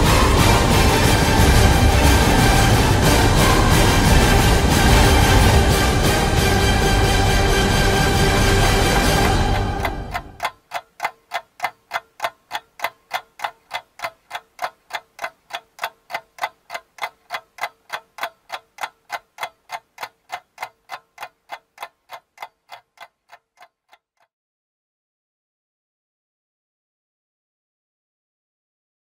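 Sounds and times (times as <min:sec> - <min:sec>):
clock ticking: 0:00.0 - 0:24.3.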